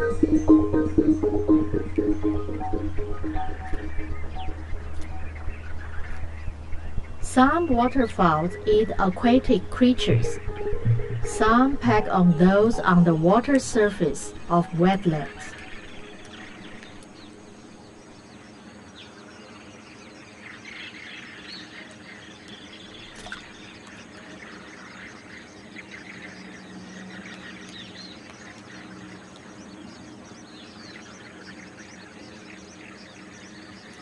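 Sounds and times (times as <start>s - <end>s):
low background hum: 0.0s - 34.0s
shorebirds chirping: 0.0s - 34.0s.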